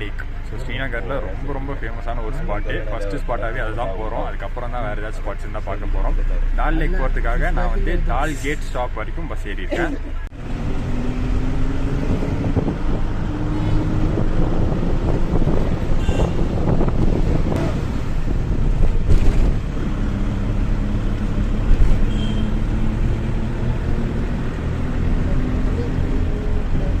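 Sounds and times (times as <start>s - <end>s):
bus engine running: 0.0s - 27.0s
road noise: 0.0s - 27.0s.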